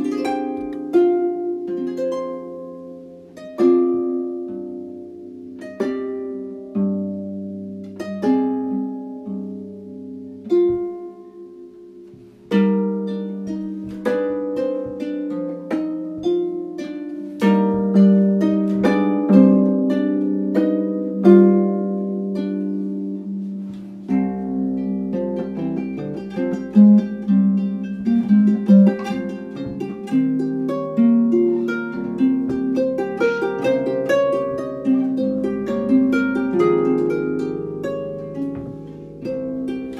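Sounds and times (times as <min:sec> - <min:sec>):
harp being played: 0:00.0 - 0:39.9.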